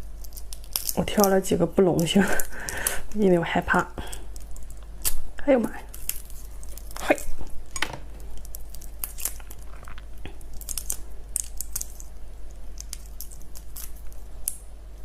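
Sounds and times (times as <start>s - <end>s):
crackles from handling shrimp: 0.0s - 7.5s, 8.2s - 14.6s.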